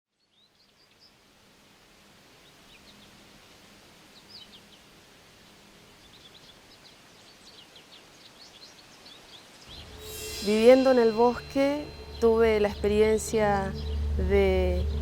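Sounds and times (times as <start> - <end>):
faint birds chirping: 0.1 - 15.0
low background hiss: 0.1 - 15.0.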